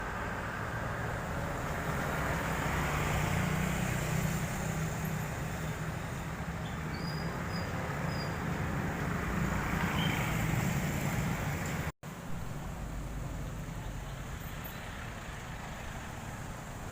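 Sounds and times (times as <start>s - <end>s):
road traffic noise: 0.0s - 16.9s
vehicle engine rumble: 0.0s - 16.9s.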